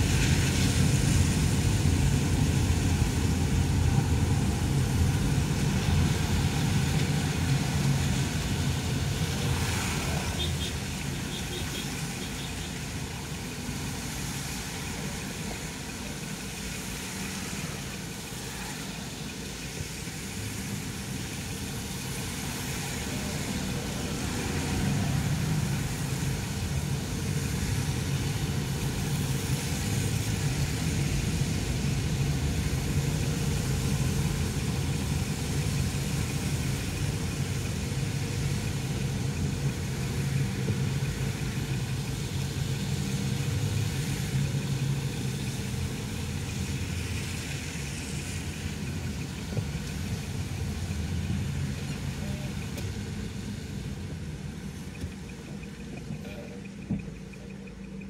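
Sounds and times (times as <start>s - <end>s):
car engine humming: 0.0s - 58.0s
tyres hissing on wet road: 0.0s - 58.0s.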